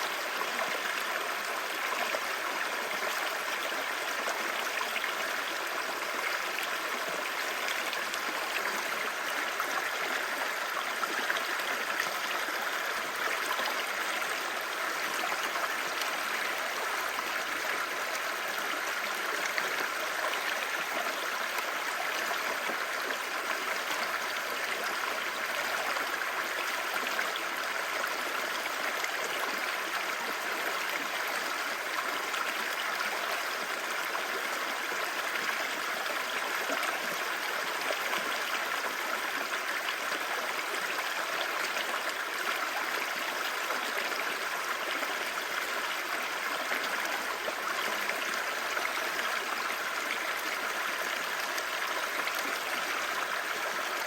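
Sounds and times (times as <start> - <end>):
river babbling: 0.0 - 54.0.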